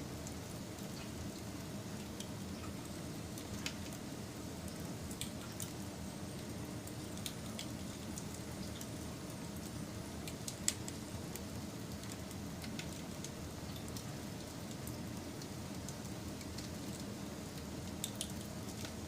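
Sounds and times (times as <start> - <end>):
wood fire crackling: 0.1 - 19.0.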